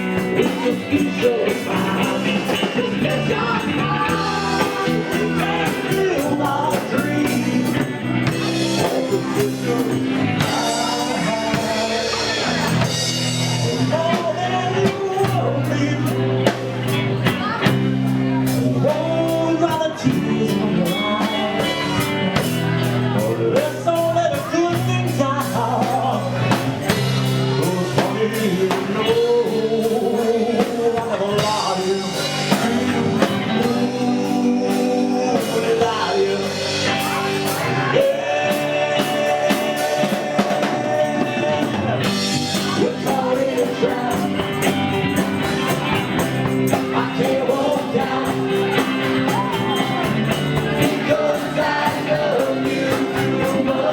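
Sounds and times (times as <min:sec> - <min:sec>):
drum and cymbal beat: 0:00.0 - 0:15.5, 0:20.5 - 0:53.9
live rock band playing: 0:00.0 - 0:53.9
person singing lead vocal: 0:00.0 - 0:53.9.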